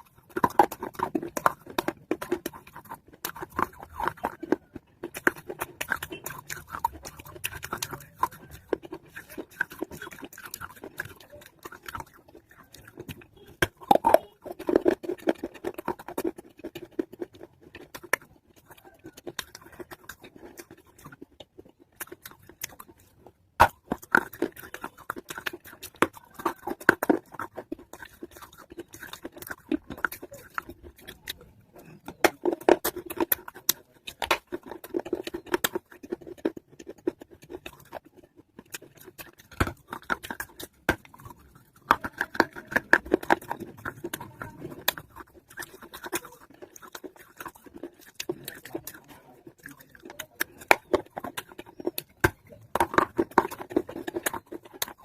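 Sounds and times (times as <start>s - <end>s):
chewing and crunching clay: 0.0s - 55.0s.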